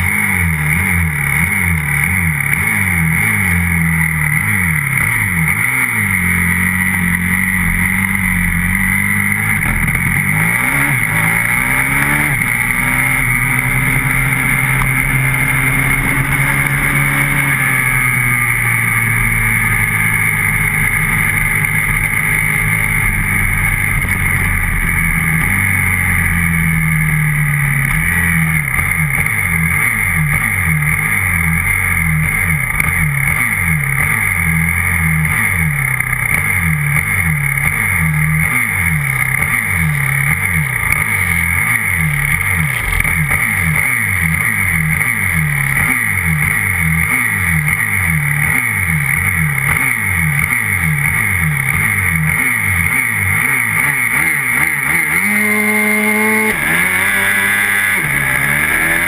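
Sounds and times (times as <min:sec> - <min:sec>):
motorcycle engine revving under load: 0:00.0 - 0:59.0.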